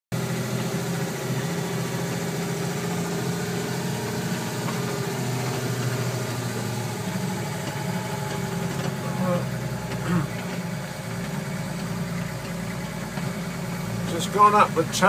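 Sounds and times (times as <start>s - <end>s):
tractor engine running: 0.1s - 15.0s.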